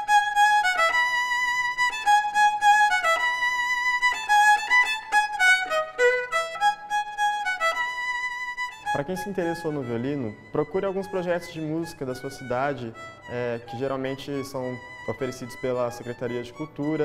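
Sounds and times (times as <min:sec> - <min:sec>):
solo violin melody: 0:00.0 - 0:17.0.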